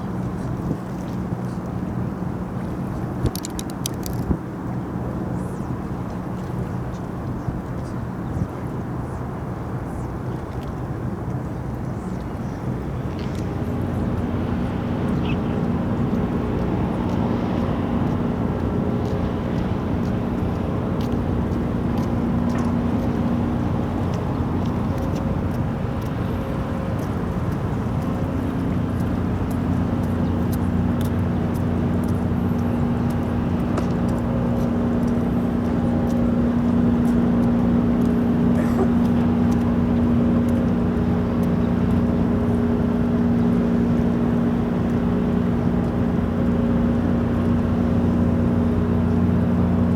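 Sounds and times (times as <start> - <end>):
low engine rumble: 0.0 - 49.9.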